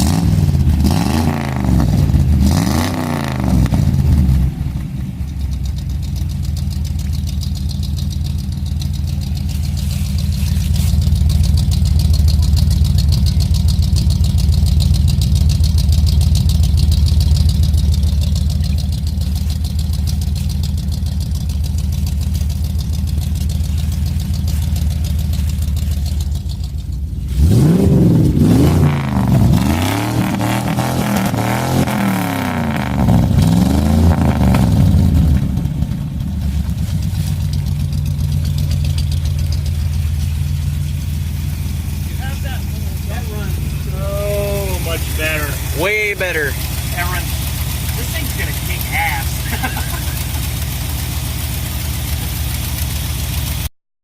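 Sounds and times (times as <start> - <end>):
truck engine idling and revving: 0.0 - 53.7.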